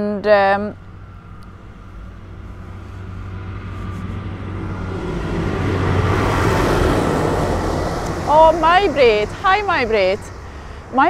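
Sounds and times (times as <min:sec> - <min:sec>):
heavy vehicle passing on wet road: 0:00.7 - 0:11.0.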